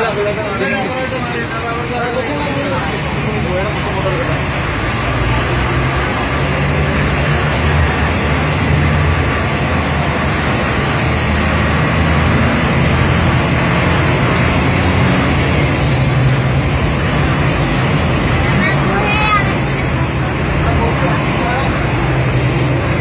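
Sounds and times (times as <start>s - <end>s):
bus diesel engine hum: 0.0s - 23.0s
road and rattle noise: 0.0s - 23.0s.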